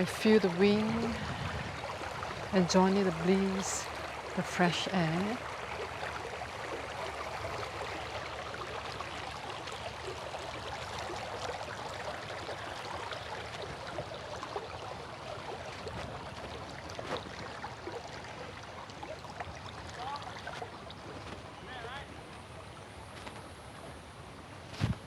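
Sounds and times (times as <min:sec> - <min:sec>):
river water rushing: 0:00.0 - 0:24.7.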